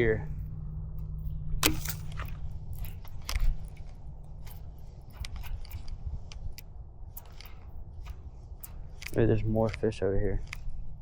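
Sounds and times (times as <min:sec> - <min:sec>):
low rumble: 0:00.0 - 0:09.5.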